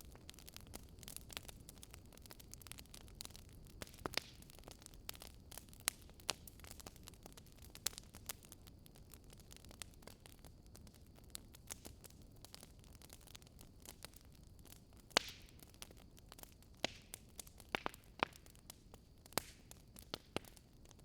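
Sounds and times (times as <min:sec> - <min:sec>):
wood fire popping and snapping: 0:00.0 - 0:21.0.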